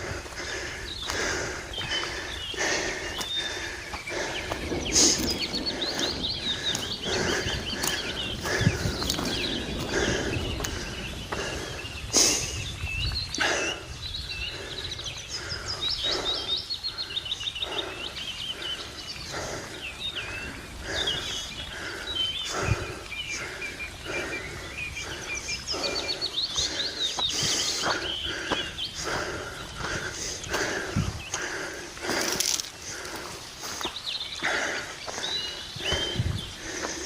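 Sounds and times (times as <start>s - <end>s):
footsteps on dirt track: 0.0s - 13.8s, 14.5s - 37.0s
small birds chirping and trilling: 0.0s - 37.0s.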